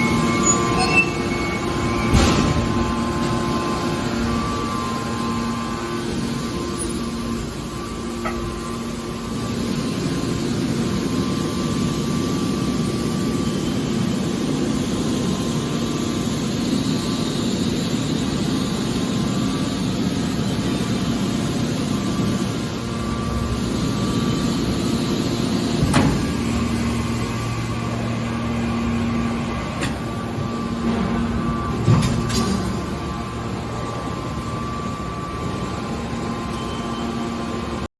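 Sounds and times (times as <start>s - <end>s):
baler machine hum: 0.0s - 37.9s.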